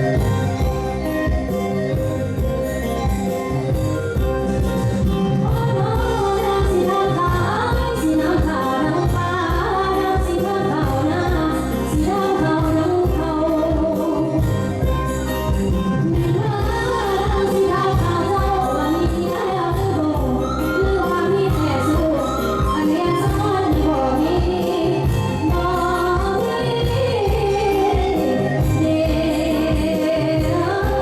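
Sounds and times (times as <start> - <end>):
folk band over steady beat: 0.0 - 31.0.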